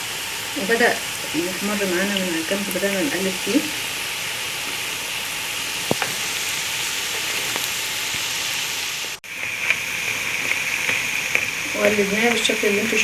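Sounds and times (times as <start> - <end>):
dough sizzling in hot oil: 0.0 - 13.0.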